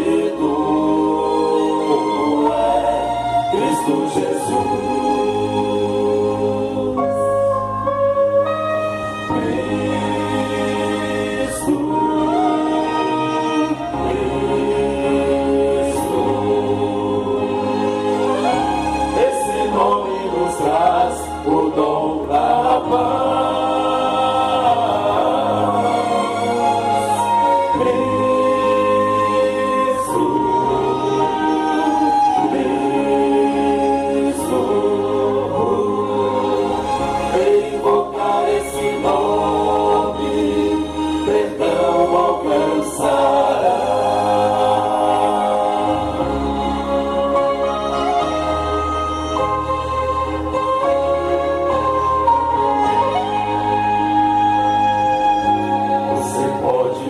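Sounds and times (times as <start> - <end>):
vocal group singing in harmony: 0.0 - 57.0.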